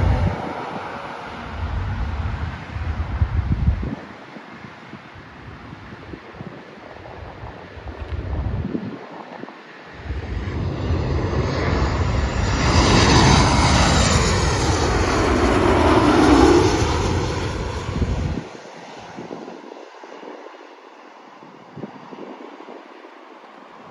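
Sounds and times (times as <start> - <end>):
jet engine whine: 0.0 - 23.9
jet flying low overhead: 0.0 - 23.9.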